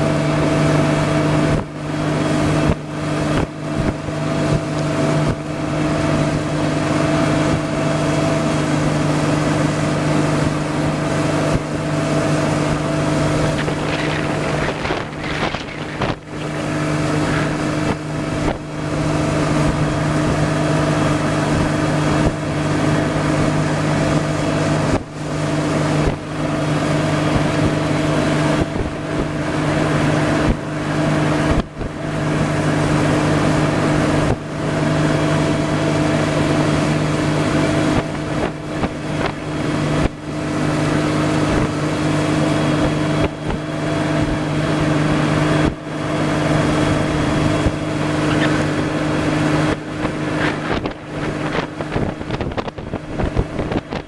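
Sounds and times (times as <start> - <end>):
boat motor droning: 0.0 - 54.0
wind and water hiss: 0.0 - 54.0.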